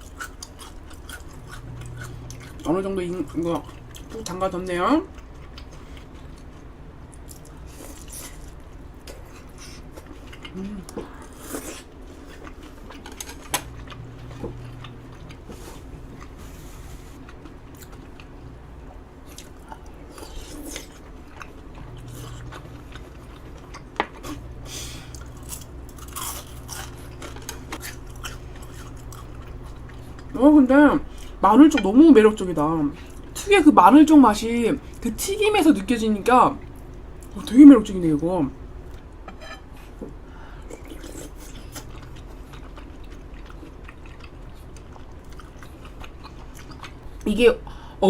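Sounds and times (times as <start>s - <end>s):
chewing crunchy fried food: 0.0s - 47.9s.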